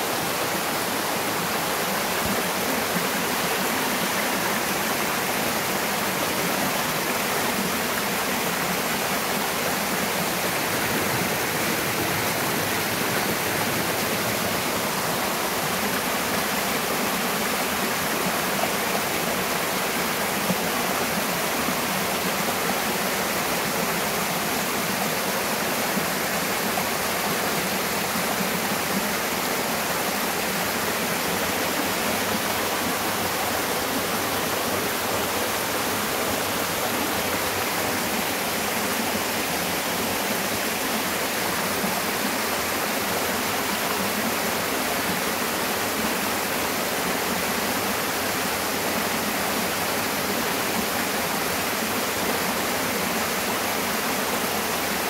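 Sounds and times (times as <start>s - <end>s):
stream rushing over rock: 0.0s - 55.0s.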